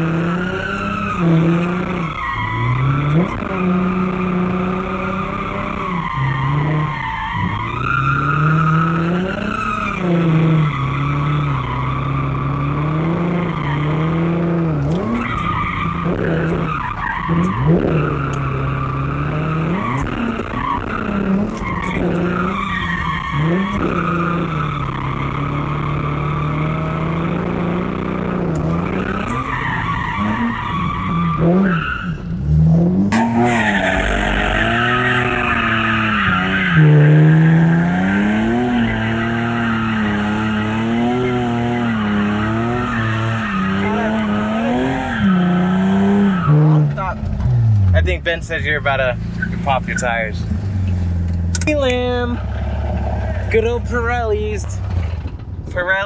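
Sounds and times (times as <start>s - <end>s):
tyres squealing: 0.0s - 32.3s, 33.2s - 47.3s
car engine revving: 0.0s - 56.0s.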